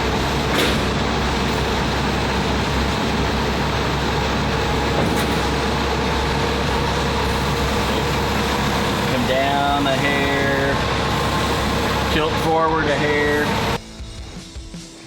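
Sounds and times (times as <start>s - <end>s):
forklift engine running: 0.0s - 13.8s.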